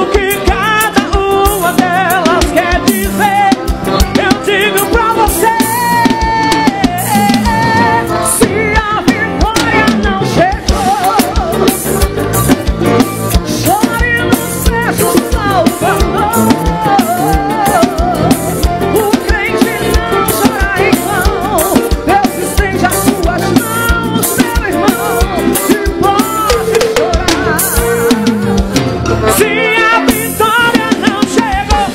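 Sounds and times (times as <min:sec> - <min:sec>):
accordion: 0:00.0 - 0:31.9
driving drum beat: 0:00.0 - 0:31.9
electric guitar: 0:00.0 - 0:31.9
keyboard: 0:00.0 - 0:31.9.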